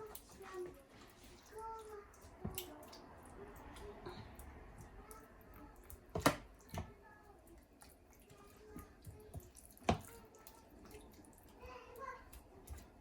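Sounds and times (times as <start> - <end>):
hands squishing raw chicken: 0.0 - 13.0.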